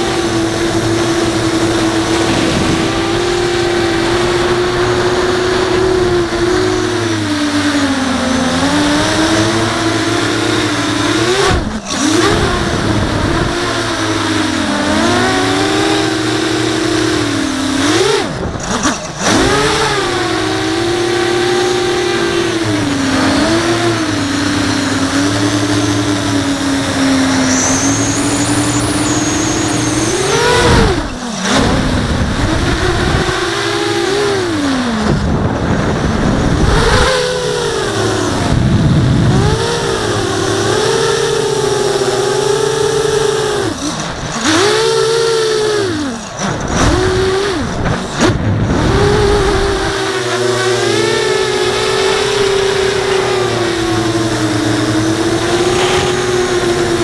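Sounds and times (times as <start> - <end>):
quadcopter propellers whining: 0.0 - 57.0.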